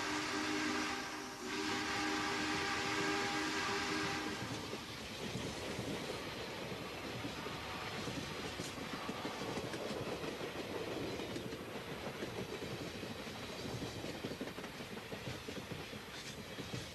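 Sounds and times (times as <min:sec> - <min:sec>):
train wheels rumbling and clacking: 0:01.4 - 0:16.9.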